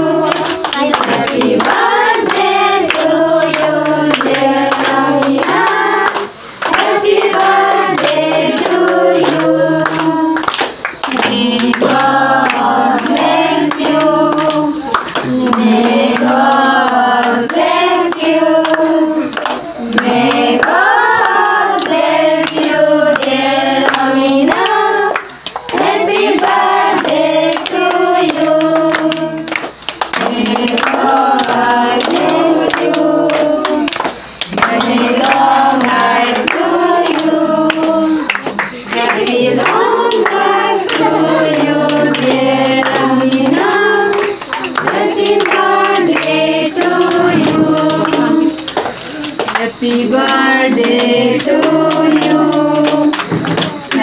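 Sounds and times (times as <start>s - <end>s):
group singing: 0.0s - 54.0s
rhythmic hand clapping: 0.0s - 54.0s.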